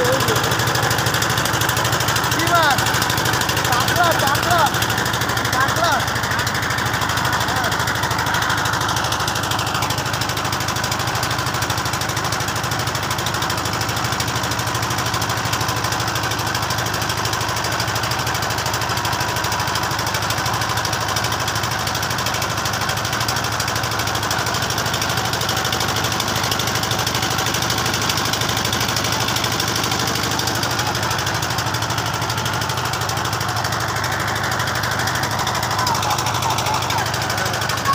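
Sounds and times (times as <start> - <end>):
boat engine knocking: 0.0 - 37.9.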